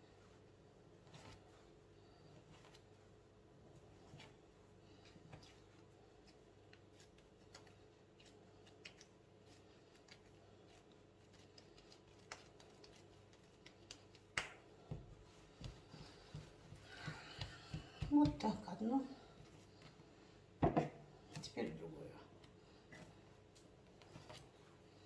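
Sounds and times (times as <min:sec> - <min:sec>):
hands handling dough: 0:00.0 - 0:25.0.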